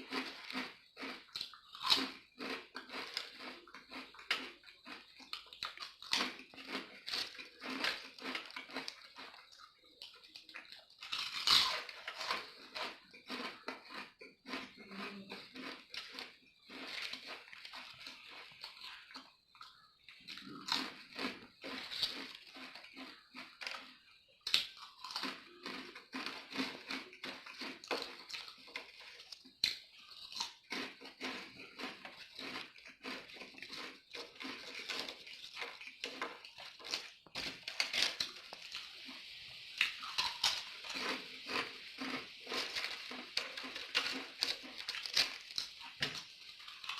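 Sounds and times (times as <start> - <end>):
chewing potato chips: 0.0 - 46.9.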